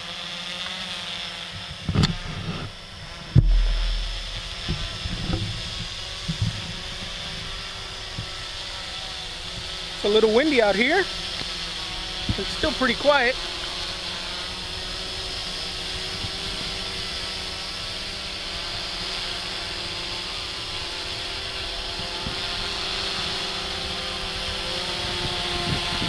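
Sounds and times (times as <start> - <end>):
quadcopter hovering whine: 0.0 - 26.0.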